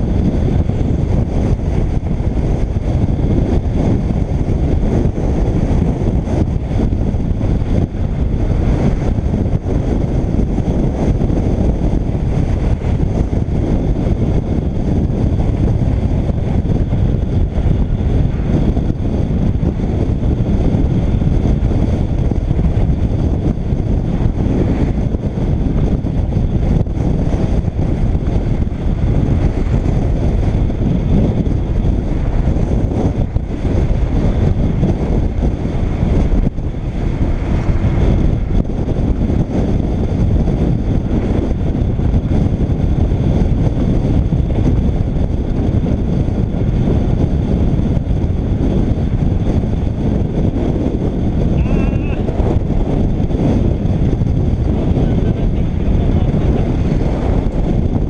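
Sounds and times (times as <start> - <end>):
motorcycle running: 0.0 - 58.0
wind rushing over microphone: 0.0 - 58.0.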